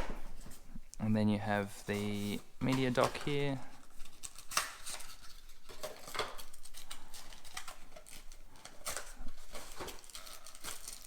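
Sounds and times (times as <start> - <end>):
packaging rustling: 1.9 - 11.0.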